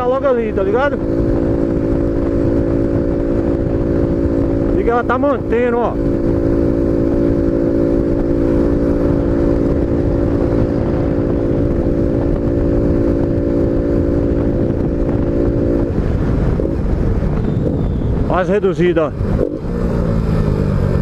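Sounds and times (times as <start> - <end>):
motorcycle engine cruising: 0.0 - 21.0
wind rush on microphone: 0.0 - 21.0.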